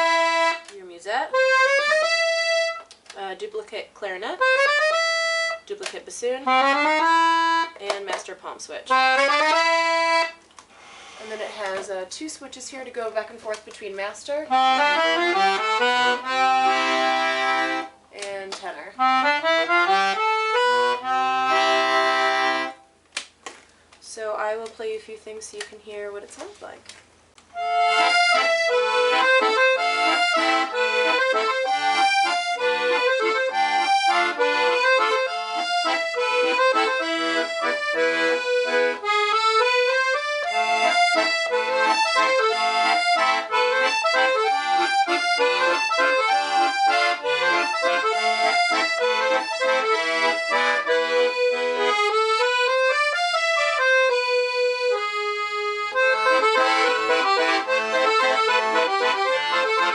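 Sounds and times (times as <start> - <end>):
piano accordion tune: 0.0 - 2.9, 4.1 - 12.1, 14.0 - 18.0, 19.0 - 22.9, 27.5 - 59.9.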